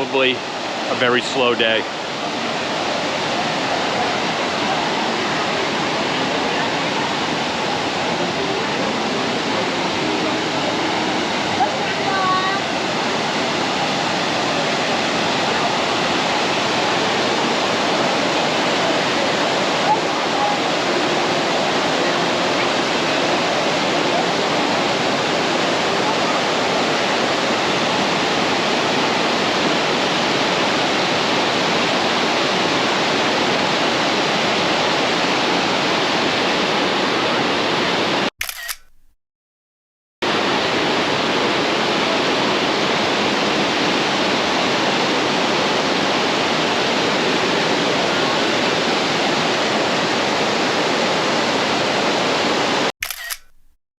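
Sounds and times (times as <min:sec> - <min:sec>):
waterfall roaring: 0:00.0 - 0:38.3, 0:40.3 - 0:52.9.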